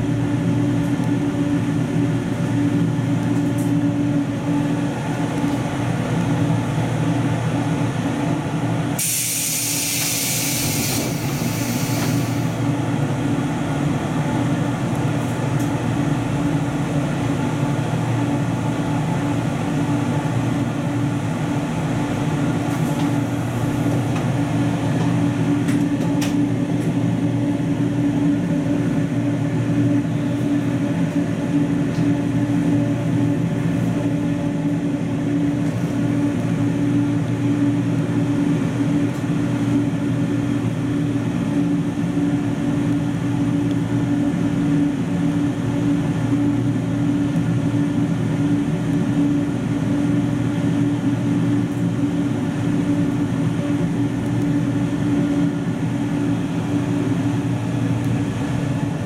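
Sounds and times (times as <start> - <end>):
electric train carriage hum: 0.0 - 59.0.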